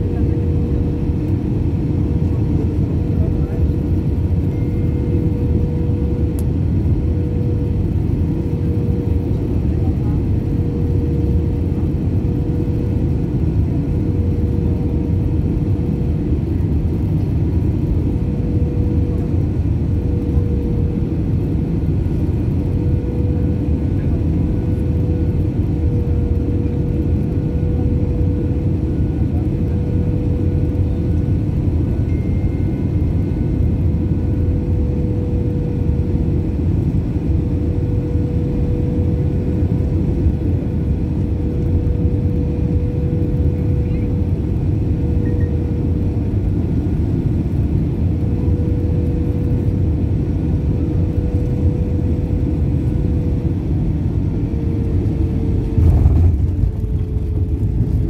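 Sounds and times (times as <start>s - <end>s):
jet engines and airflow roar: 0.0s - 58.0s.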